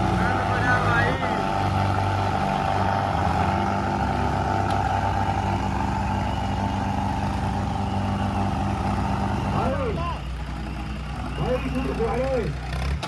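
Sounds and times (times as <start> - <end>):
tractor engines running at high revs: 0.0 - 13.0.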